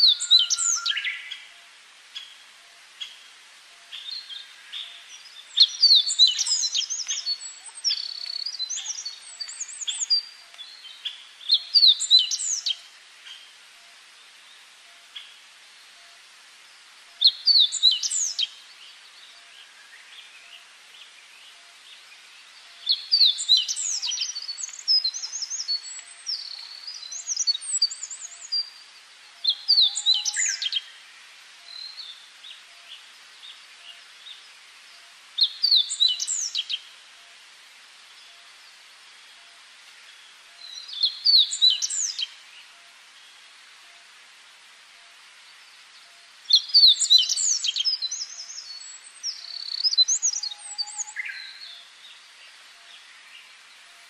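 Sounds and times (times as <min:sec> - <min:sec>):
faint steady hiss: 0:00.0 - 0:54.0
songbird singing: 0:00.0 - 0:54.0.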